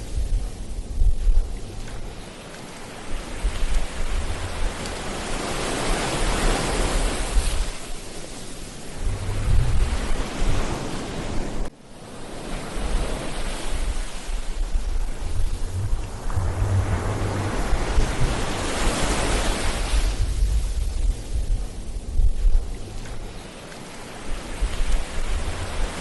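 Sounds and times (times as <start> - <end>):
waves breaking on shore: 0.0 - 26.0
wind rumble on microphone: 0.0 - 26.0.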